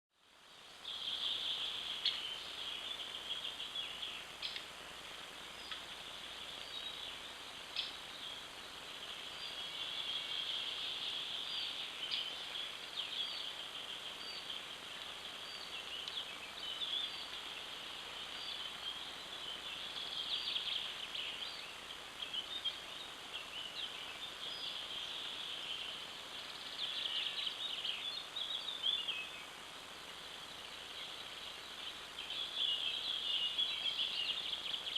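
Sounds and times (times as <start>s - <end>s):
faint steady hiss: 0.1s - 34.9s
wild birds chorus: 0.2s - 34.9s.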